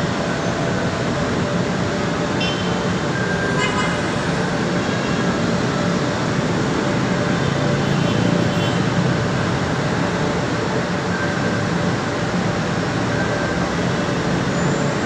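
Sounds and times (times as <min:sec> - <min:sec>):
heavy road traffic: 0:00.0 - 0:15.0.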